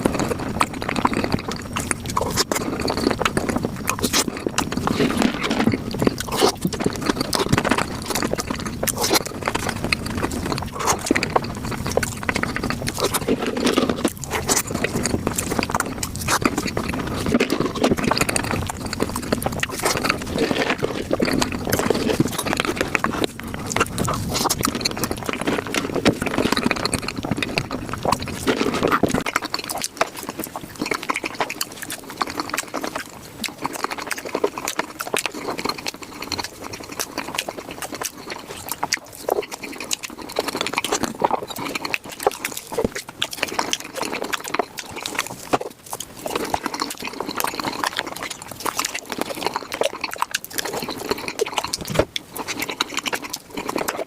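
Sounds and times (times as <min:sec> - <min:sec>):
low background hum: 0:00.0 - 0:54.0
wet chewing and smacking: 0:00.0 - 0:54.0.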